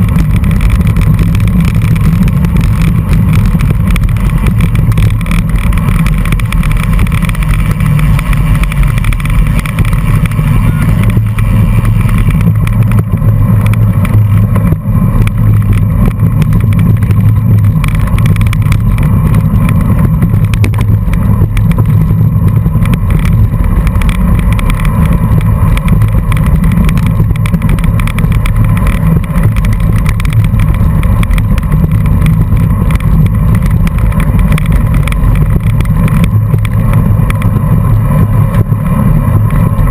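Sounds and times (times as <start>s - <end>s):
bicycle road vibration rumble: 0.0s - 39.9s
wind buffeting: 0.0s - 39.9s.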